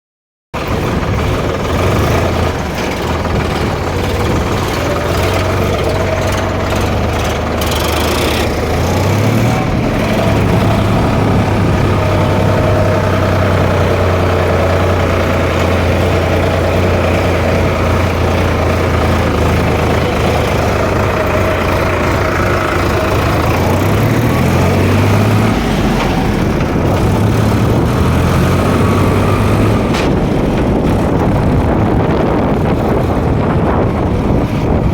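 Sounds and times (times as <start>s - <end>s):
tractor diesel engine running: 0.6s - 34.9s.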